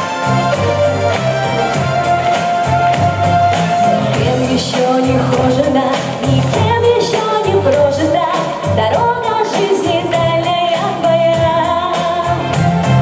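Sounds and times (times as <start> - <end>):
pop song over sound system: 0.0 - 13.0.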